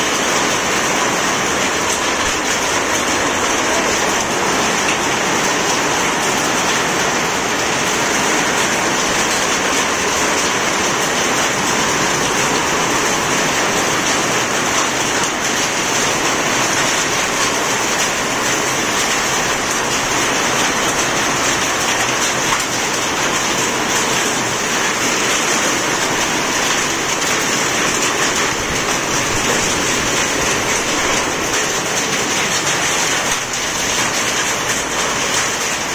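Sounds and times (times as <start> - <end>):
hail and rain pelting the ground: 0.0 - 35.9.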